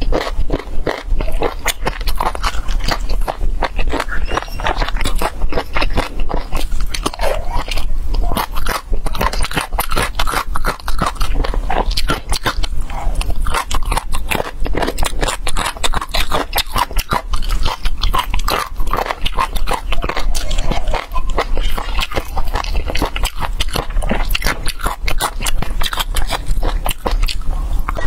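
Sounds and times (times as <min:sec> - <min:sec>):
wet chewing and crunching: 0:00.0 - 0:28.0.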